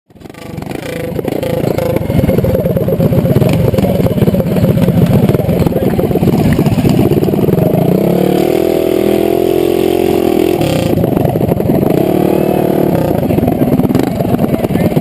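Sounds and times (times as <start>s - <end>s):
minibike engines revving: 0.1s - 15.0s.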